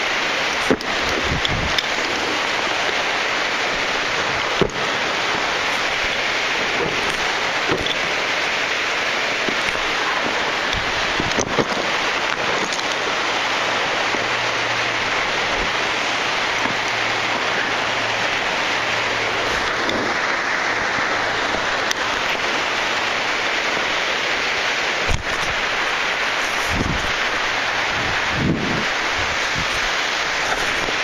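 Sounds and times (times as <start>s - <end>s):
falling water rushing: 0.0s - 31.0s.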